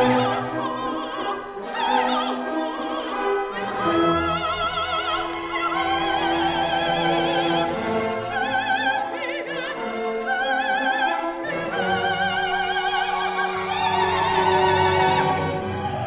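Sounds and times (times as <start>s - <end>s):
operatic voice singing: 0.0s - 16.0s
orchestra playing: 0.0s - 16.0s.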